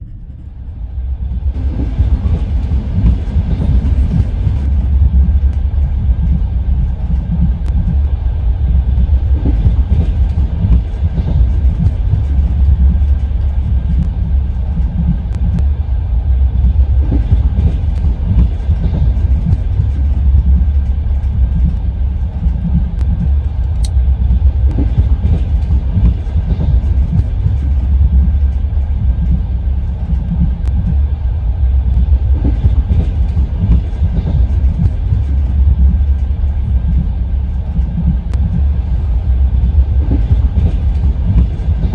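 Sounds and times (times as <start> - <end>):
low rumble of train carriage: 0.0 - 41.9
train wheels clattering over rails: 0.0 - 41.9.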